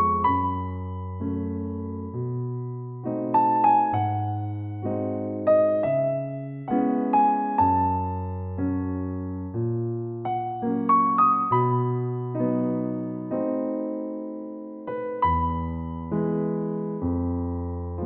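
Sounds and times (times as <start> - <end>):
slow electric piano chords: 0.0 - 18.0.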